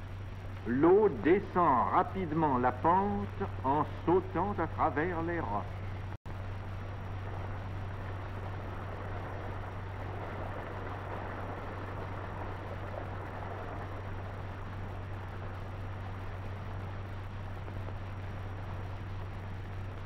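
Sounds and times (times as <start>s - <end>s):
constant low hum: 0.0s - 20.0s
steady hiss: 0.0s - 20.0s.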